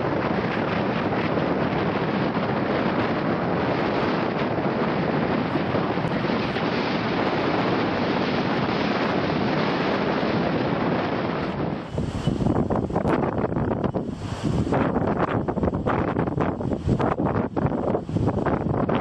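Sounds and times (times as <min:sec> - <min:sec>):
strong wind buffeting microphone: 0:00.0 - 0:19.0
surf breaking on beach: 0:00.0 - 0:19.0.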